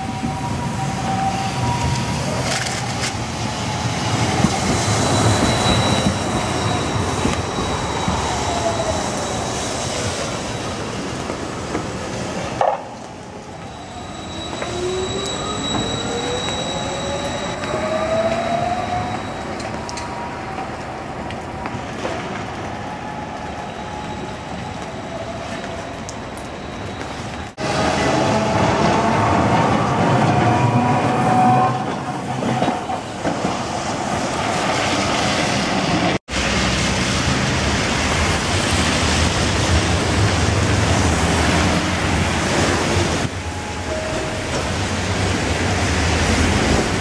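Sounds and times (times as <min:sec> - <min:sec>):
tram wheels rumbling on rail: 0:00.0 - 0:47.0.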